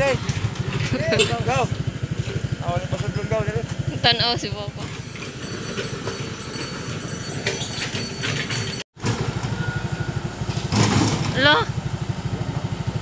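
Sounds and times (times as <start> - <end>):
engine throbbing: 0.0 - 13.0.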